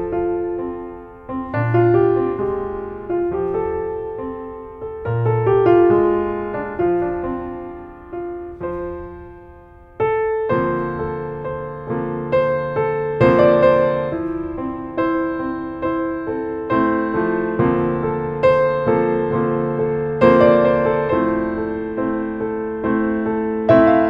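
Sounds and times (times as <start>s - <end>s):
piano chords ringing: 0.0s - 24.0s.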